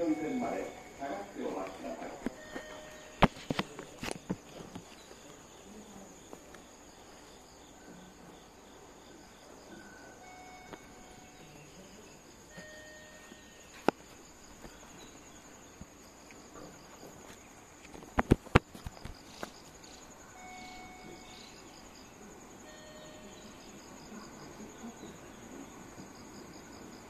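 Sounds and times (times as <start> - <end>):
insects chirping in pulsing trill: 0.0 - 27.0.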